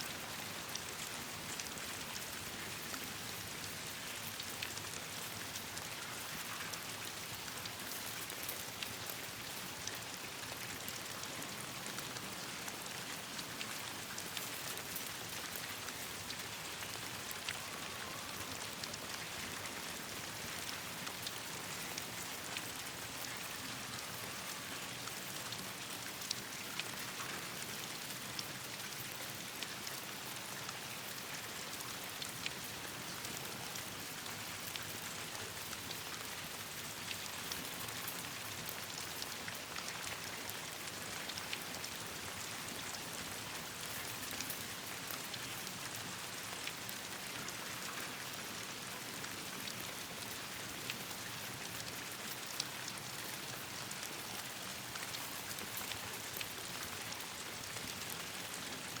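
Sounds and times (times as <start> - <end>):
steady rain with ticks and pops: 0.0 - 59.0.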